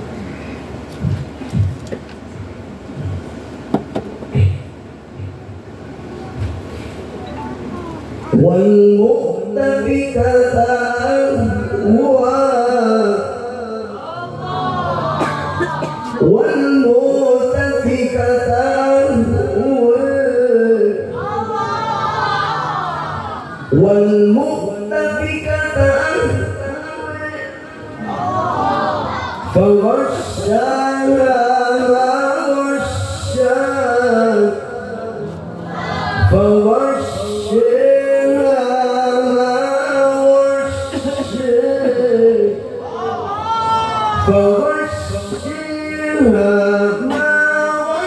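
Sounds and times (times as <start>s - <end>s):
man reciting melodically: 4.3s - 5.4s, 8.0s - 21.6s, 23.6s - 35.6s, 36.2s - 48.0s.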